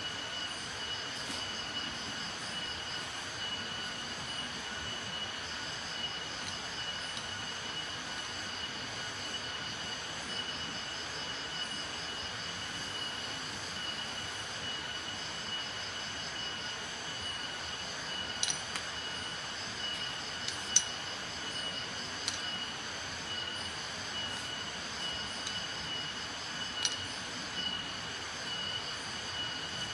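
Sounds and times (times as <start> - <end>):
high-pitched insect trill: 0.0 - 29.9.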